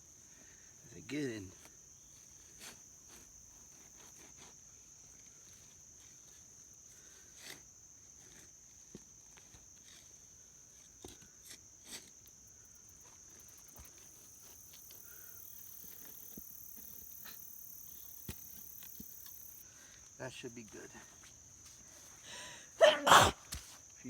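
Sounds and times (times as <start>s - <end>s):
crickets and insects chirring: 0.0s - 24.0s
hands and tools in soil: 1.1s - 24.0s.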